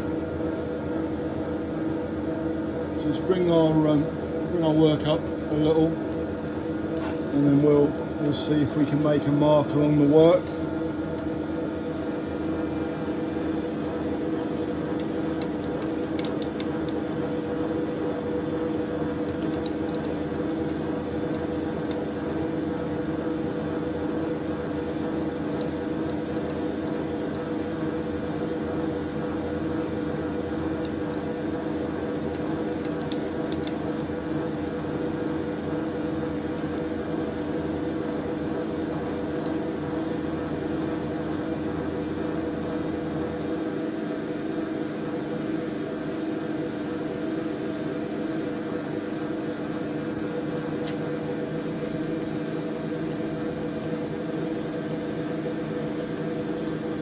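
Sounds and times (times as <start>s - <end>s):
milling machine humming: 0.0s - 57.0s.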